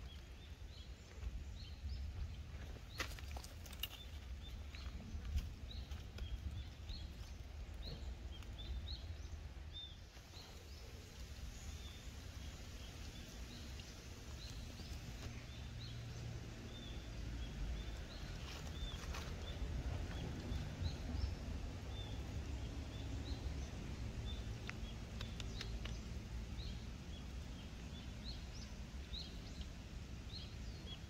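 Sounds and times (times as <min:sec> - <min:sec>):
birds chirping: 0:00.0 - 0:31.0
low steady rumble: 0:00.0 - 0:31.0.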